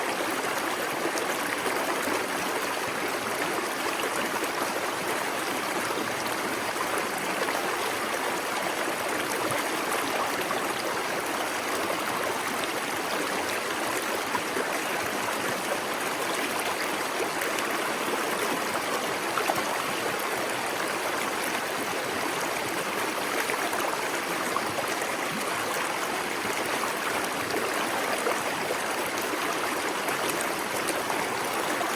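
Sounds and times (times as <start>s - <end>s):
stream rushing and trickling: 0.0s - 31.9s.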